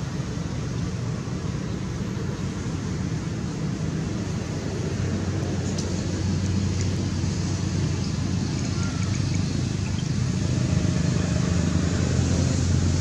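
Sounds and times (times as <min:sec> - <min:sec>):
constant hiss: 0:00.0 - 0:13.0
low mechanical hum: 0:00.0 - 0:13.0.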